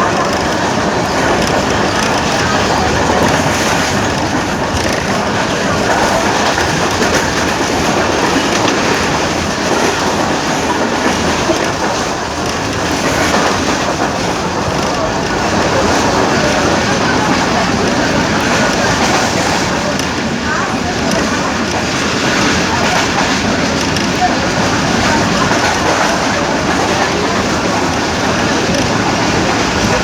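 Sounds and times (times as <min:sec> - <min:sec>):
train passing at speed: 0:00.0 - 0:30.0.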